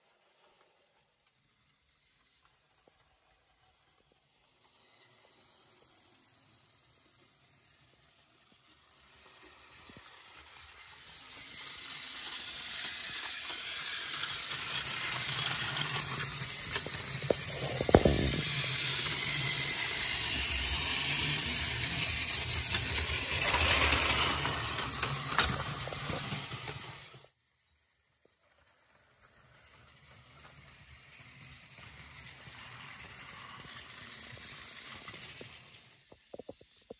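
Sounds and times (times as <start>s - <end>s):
toy train motor whirring: 0.0s - 36.9s
toy train wheels rattling: 0.0s - 36.9s.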